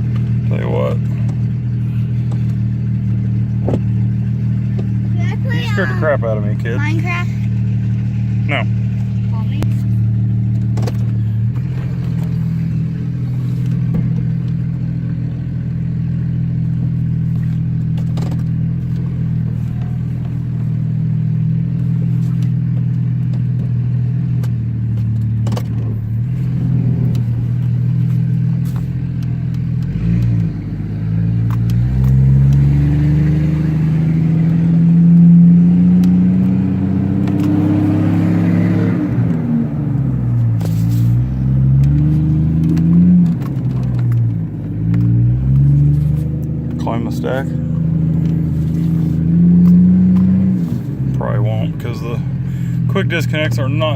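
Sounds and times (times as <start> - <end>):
loud engine through straight pipes: 0.0 - 53.9.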